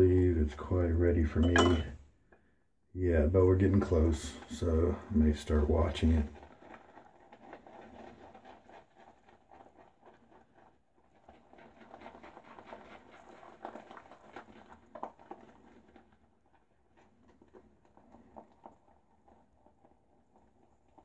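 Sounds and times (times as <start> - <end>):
brush whipping lather in a bowl: 3.8 - 21.0.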